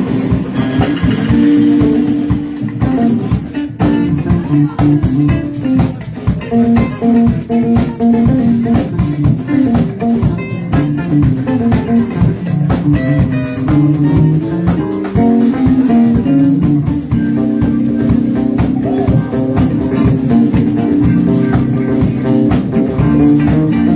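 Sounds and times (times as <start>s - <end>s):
bass: 0.0s - 23.9s
drum kit: 0.0s - 23.9s
electric guitar: 0.0s - 23.9s.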